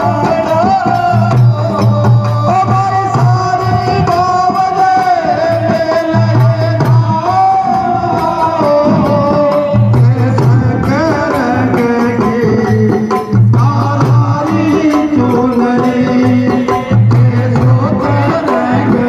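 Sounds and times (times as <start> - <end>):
folk song with long held notes: 0.0 - 19.0
frame drums beating steady rhythm: 0.0 - 19.0.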